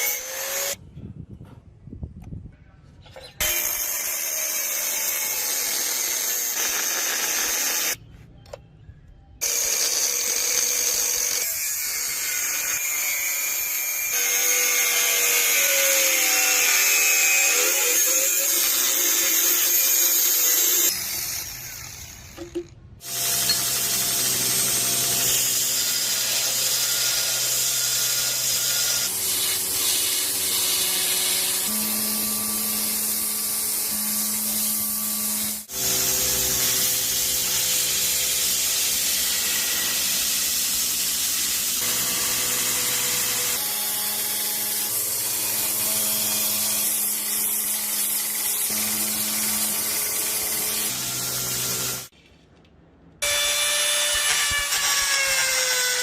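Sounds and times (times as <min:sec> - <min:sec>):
power tools on metal: 0:00.0 - 0:00.8, 0:03.2 - 0:08.0, 0:09.4 - 0:52.1, 0:53.2 - 0:56.0.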